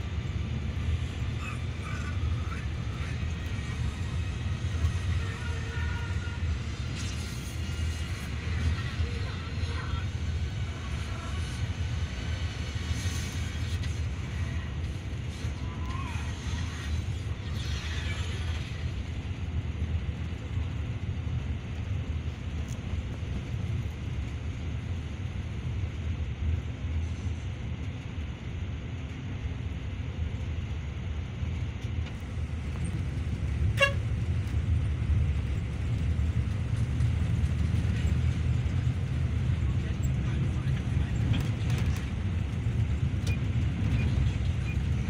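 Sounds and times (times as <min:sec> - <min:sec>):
bus engine rumble: 0:00.0 - 0:45.0
road noise: 0:00.0 - 0:45.0.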